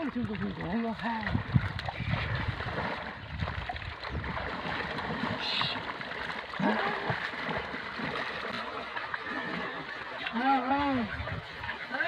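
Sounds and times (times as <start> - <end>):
pond water sloshing and splashing: 0.0 - 12.0.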